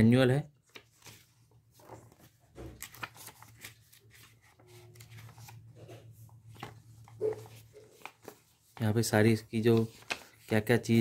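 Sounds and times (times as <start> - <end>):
paper rustling: 0.6 - 11.0.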